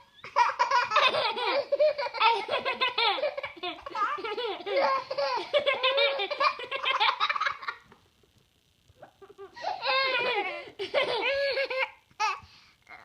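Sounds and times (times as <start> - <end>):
young children laughing: 0.0 - 7.9, 9.0 - 12.0.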